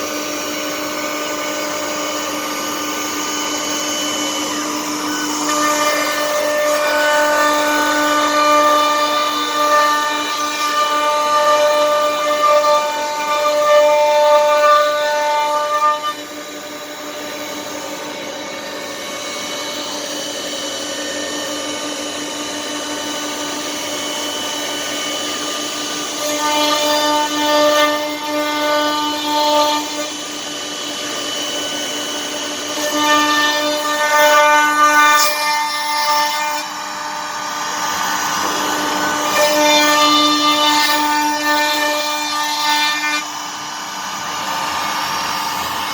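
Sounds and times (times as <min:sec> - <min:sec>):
wood router spindle whining: 0:00.0 - 0:45.9.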